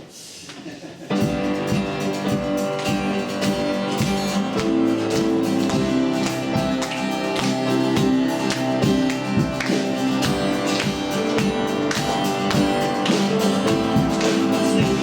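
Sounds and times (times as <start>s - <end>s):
worship band playing: 1.0s - 15.0s
strummed guitar: 1.1s - 15.0s.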